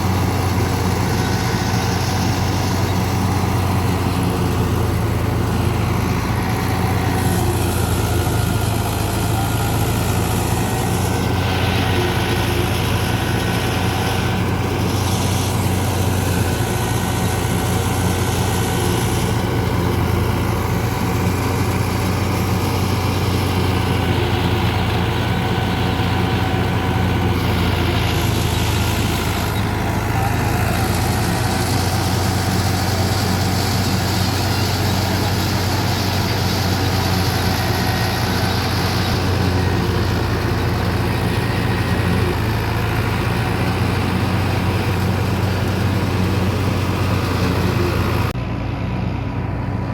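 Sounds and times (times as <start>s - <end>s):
threshing machine rushing hiss: 0.0s - 48.4s
tractor diesel engine running: 0.0s - 49.9s.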